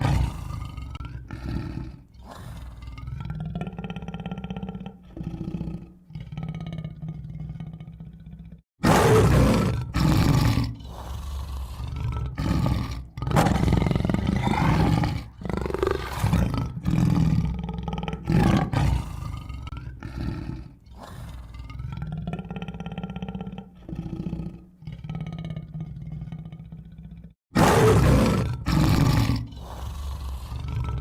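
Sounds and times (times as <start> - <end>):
tiger roaring and growling: 0.0 - 31.0.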